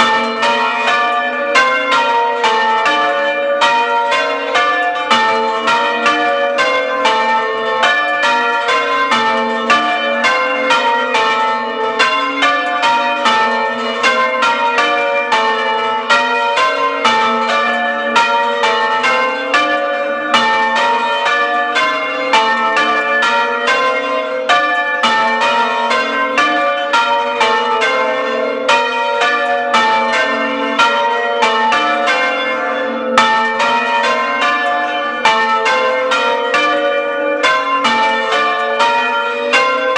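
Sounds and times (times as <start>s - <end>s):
church tower bells ringing: 0.0s - 39.9s.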